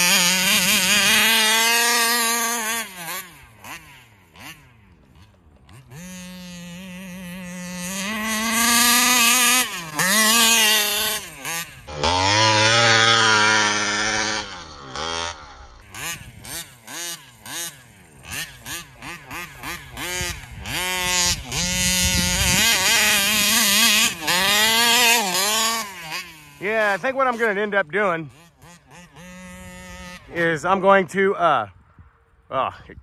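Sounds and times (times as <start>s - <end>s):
two-stroke engine revving: 0.0s - 31.7s.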